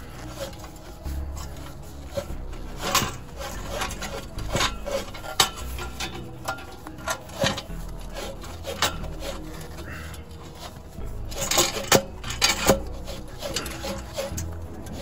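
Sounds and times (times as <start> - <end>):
metal scraping against metal: 0.0 - 15.0.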